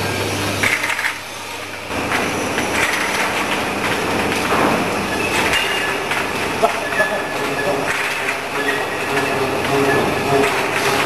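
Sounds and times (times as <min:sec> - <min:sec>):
bottling machine clattering: 0:00.0 - 0:11.0.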